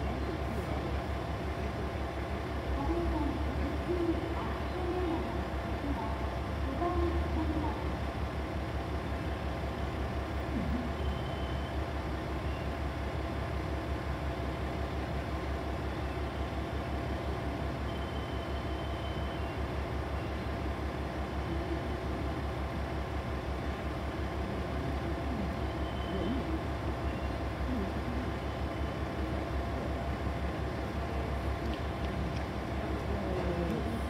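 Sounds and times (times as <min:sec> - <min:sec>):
diesel railcar engine idling: 0:00.0 - 0:34.0.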